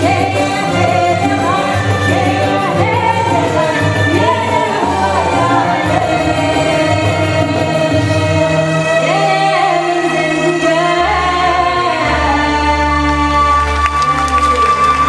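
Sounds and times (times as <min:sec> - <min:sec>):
woman singing into a microphone: 0:00.0 - 0:14.2.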